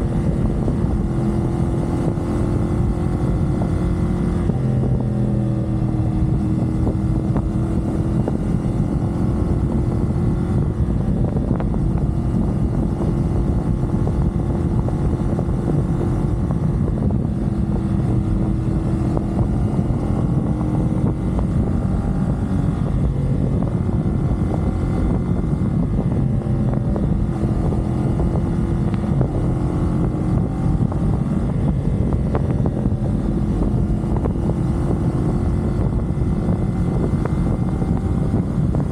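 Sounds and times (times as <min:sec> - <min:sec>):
motorcycle engine cruising: 0:00.0 - 0:38.9
wind noise on microphone: 0:00.0 - 0:38.9.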